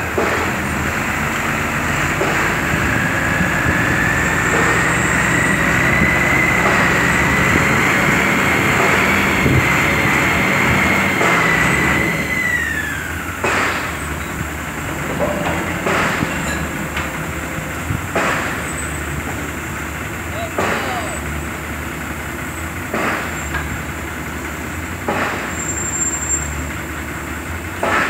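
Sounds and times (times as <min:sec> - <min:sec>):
low machine drone: 0:00.0 - 0:25.6.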